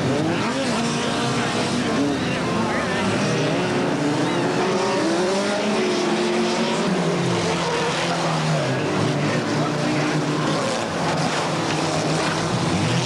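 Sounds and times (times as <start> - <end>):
stock car engines revving: 0.0 - 13.0.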